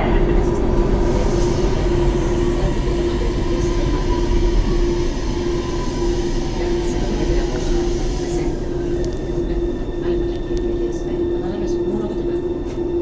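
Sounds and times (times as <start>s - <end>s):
constant hum: 0.0s - 13.0s
train rumbling in tunnel: 0.0s - 13.0s
train whine falling in pitch: 0.0s - 13.0s.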